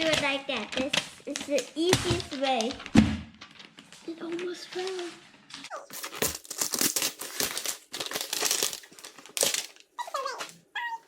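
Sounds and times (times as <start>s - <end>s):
plastic packaging crinkling: 0.0s - 5.1s, 5.7s - 10.6s.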